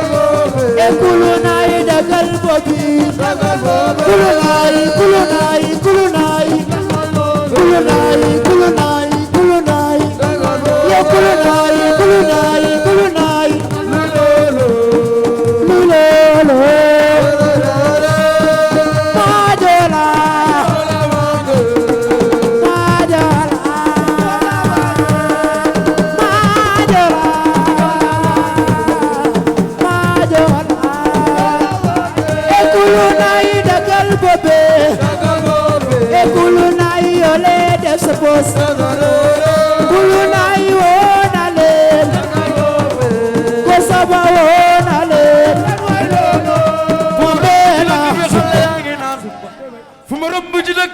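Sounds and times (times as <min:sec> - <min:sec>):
person singing melody: 0:00.0 - 0:48.8
hand drums beat: 0:00.0 - 0:49.2.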